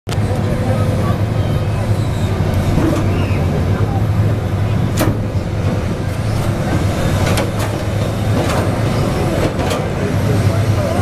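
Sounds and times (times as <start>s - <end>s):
diesel engine running: 0.1s - 11.0s.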